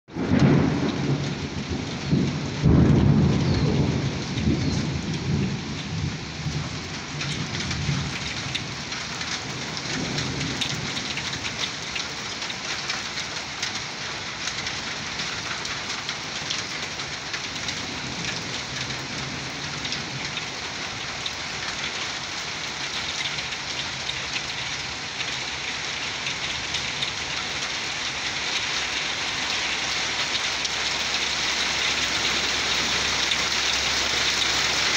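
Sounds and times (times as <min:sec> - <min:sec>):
rain falling: 0:00.1 - 0:34.9
thunder rumbling: 0:00.1 - 0:34.9.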